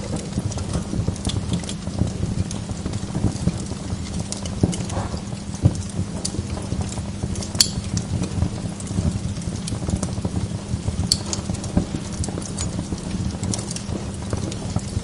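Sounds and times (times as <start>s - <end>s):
log fire crackling: 0.0s - 15.0s
sharp pops of fire: 0.0s - 15.0s.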